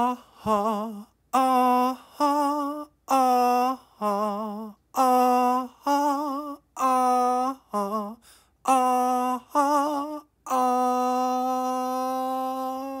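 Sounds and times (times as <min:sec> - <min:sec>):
person singing wordless tune: 0:00.0 - 0:13.0.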